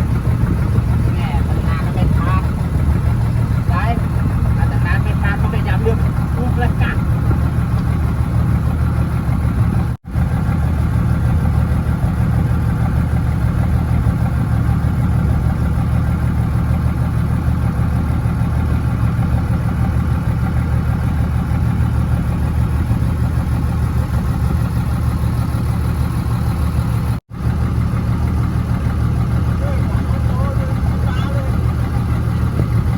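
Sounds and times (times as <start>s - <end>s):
boat engine humming: 0.0s - 32.9s.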